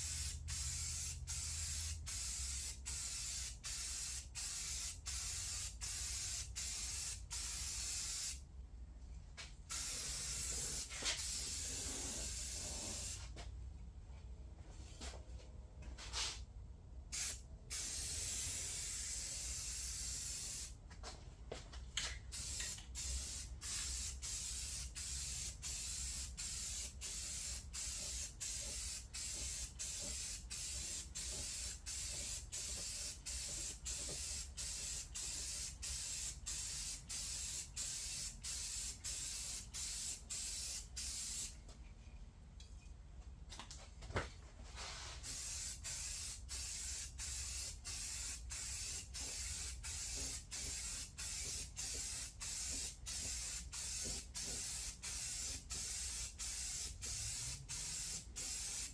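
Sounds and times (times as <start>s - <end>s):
spray paint hissing: 0.0s - 8.4s, 9.7s - 13.3s, 17.1s - 20.8s, 22.3s - 41.5s, 45.0s - 58.9s.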